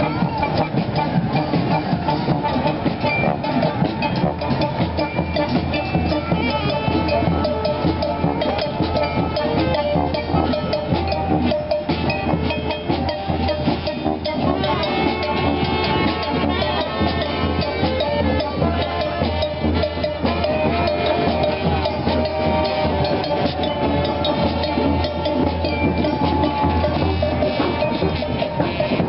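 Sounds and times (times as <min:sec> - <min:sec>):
brass band horns: 0:00.0 - 0:29.0
steady drum beat: 0:00.0 - 0:29.0.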